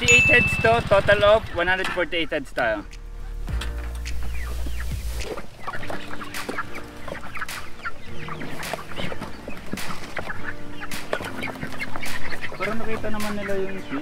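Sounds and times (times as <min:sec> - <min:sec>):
young chickens chirping and clucking: 0:00.0 - 0:14.0.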